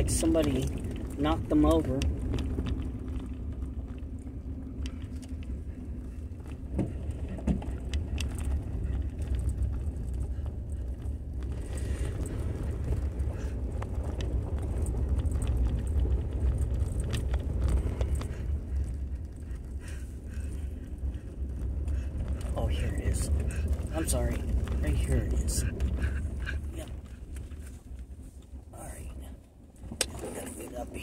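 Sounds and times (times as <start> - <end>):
light clicks and rattles: 0.0 - 28.6
car road and engine rumble: 0.0 - 31.0.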